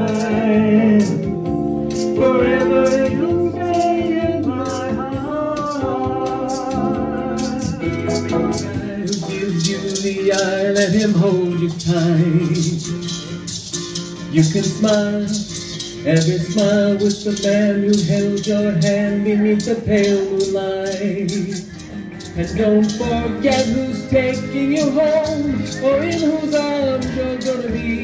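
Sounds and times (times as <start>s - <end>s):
shaker rhythm: 0.0s - 28.0s.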